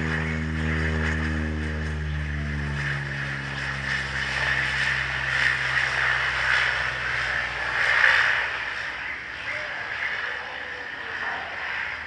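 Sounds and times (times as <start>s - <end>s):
airliner engines rushing and whining: 0.0s - 12.0s
low engine hum: 0.0s - 12.0s.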